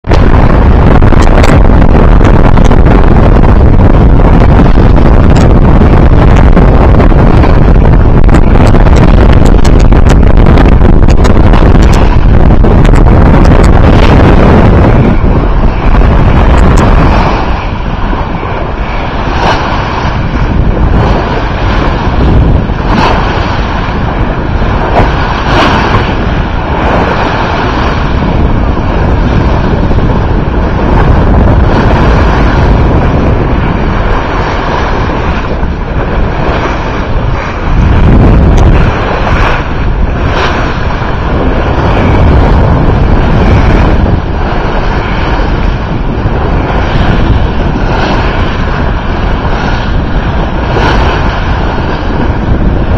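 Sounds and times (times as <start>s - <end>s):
water rushing and splashing: 0.0s - 52.9s
wind buffeting microphone: 0.0s - 52.9s.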